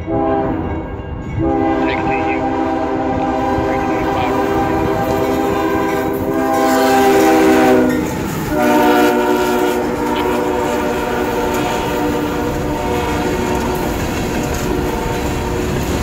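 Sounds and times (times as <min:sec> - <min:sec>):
locomotive air horn chord: 0:00.0 - 0:00.8, 0:01.4 - 0:15.9
train rumble and wheel clatter: 0:00.0 - 0:16.0.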